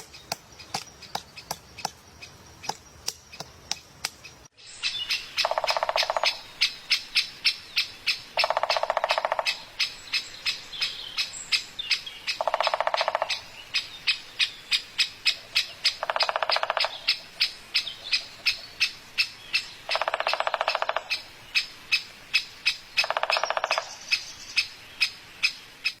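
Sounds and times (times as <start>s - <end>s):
bird chirps: 0.0s - 26.0s
buzzy bird call: 4.2s - 26.0s.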